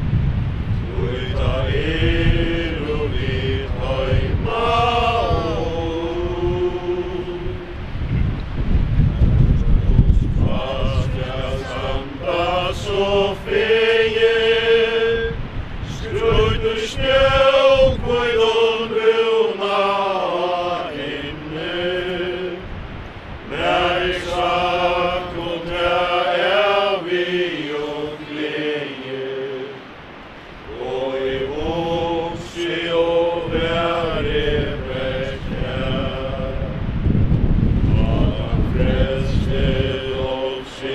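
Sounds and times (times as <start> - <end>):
group singing a hymn: 0.6 - 8.2, 9.2 - 40.9.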